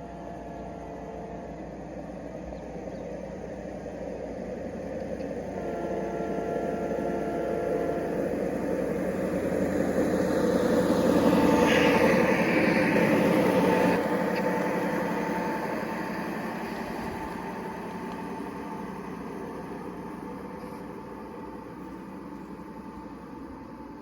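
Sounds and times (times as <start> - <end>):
model train rumbling along track: 0.0 - 24.0.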